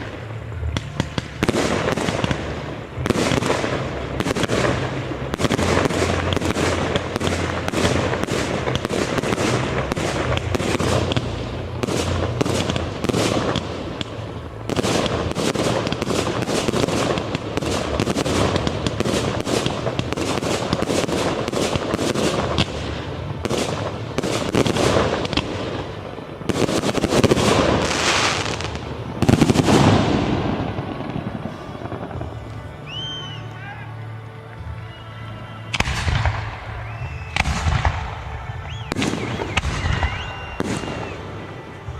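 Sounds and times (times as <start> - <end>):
heavy firework bursts: 0.0 - 33.9, 35.5 - 41.9
fireworks bursting and crackling: 0.0 - 41.9.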